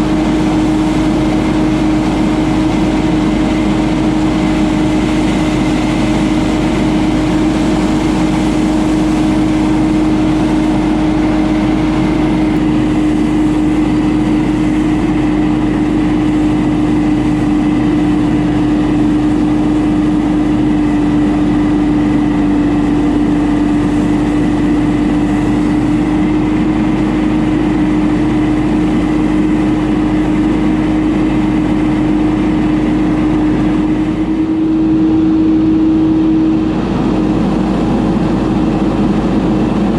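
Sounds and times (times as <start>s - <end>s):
debris blower running: 0.0s - 39.9s.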